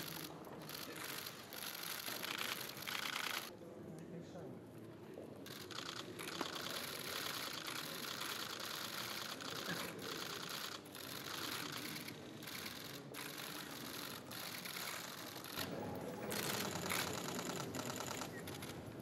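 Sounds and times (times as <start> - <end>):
camera shutters clicking rapidly: 0.0 - 3.5, 5.5 - 15.7, 16.3 - 19.0.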